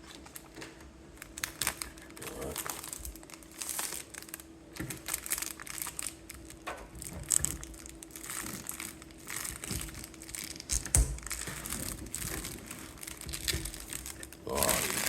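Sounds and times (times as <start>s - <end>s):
faint steady hum: 0.0s - 15.0s
plastic film crinkling: 0.0s - 15.0s.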